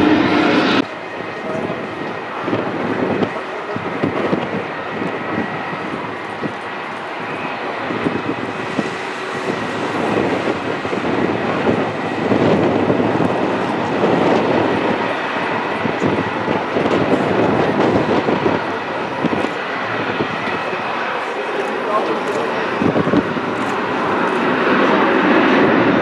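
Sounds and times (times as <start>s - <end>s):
faint jet engine whine: 0.0s - 26.0s
jet engines rumbling: 0.0s - 26.0s.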